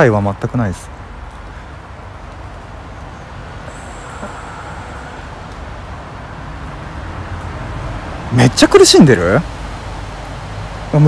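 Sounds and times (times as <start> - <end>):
passing cars: 0.0 - 11.0.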